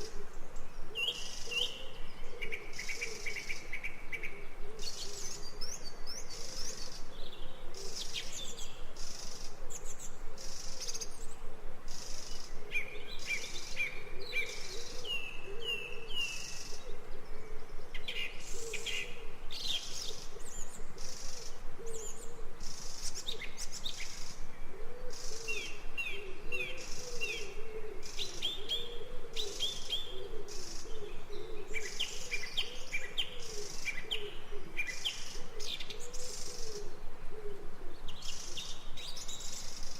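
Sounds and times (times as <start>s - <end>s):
birds chirping and singing: 0.0s - 37.0s.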